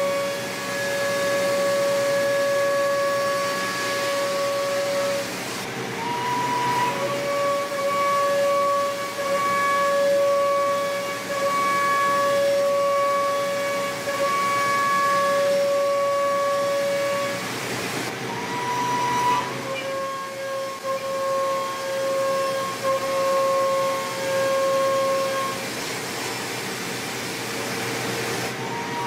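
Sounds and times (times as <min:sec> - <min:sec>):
cnc machine cutting whine: 0:00.0 - 0:29.0
hiss of chips and coolant: 0:00.0 - 0:29.0.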